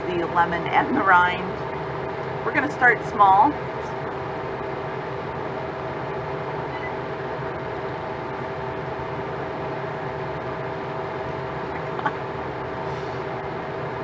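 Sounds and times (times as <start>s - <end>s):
freeze dryer humming: 0.0s - 14.0s.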